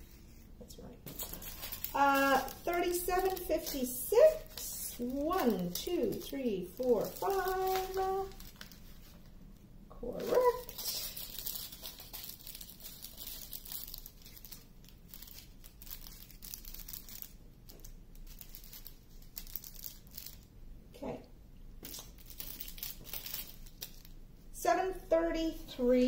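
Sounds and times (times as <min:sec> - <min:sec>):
plastic bags crinkling: 0:01.0 - 0:09.4, 0:10.0 - 0:20.5, 0:21.8 - 0:24.2.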